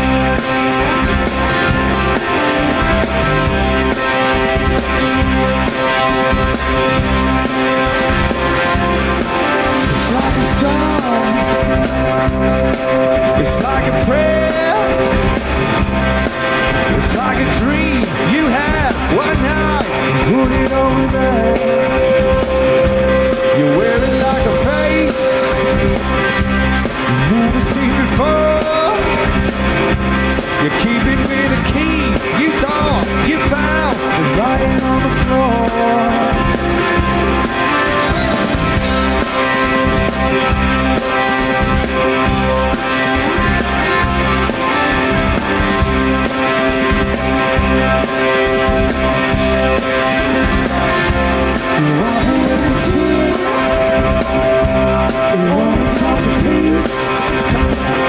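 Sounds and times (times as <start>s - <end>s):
bass guitar: 0.0s - 58.0s
electric guitars: 0.0s - 58.0s
steady drum beat: 0.0s - 58.0s.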